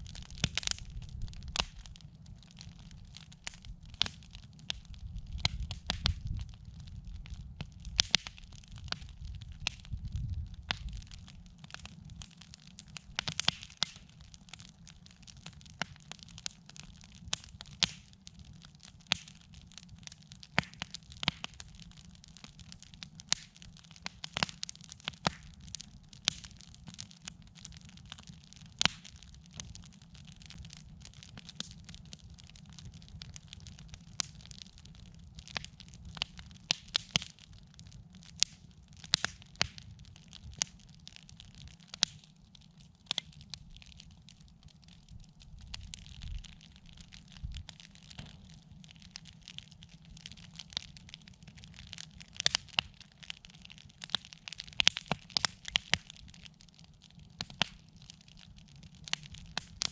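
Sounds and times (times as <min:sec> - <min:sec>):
campfire crackling and popping: 0:00.0 - 0:59.9
low fire rumble: 0:00.0 - 0:59.9.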